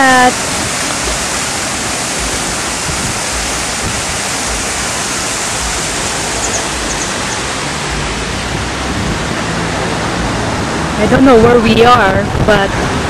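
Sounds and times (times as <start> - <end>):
water rushing through sluices: 0.0 - 13.0.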